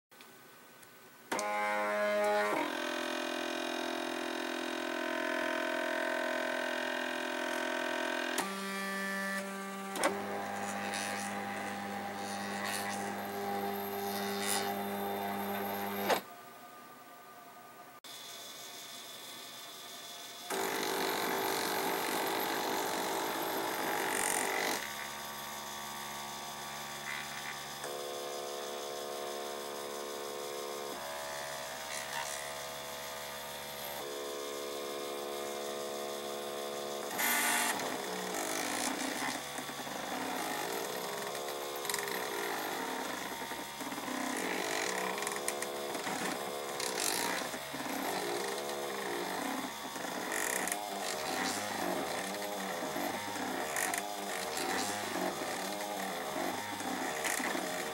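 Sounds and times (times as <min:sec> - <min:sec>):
stepper motors whining: 0:01.3 - 0:16.3, 0:18.1 - 0:57.9.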